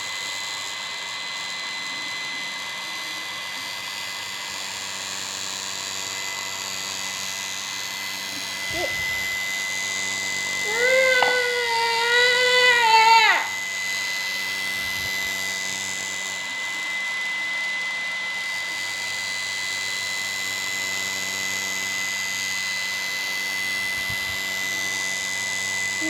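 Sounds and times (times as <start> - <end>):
electric fan whirring: 0.0 - 26.0.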